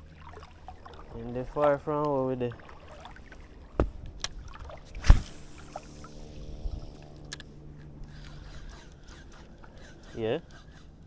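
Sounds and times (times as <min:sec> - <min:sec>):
faint steady hum: 0:00.0 - 0:11.0
water sloshing around legs: 0:00.0 - 0:11.0.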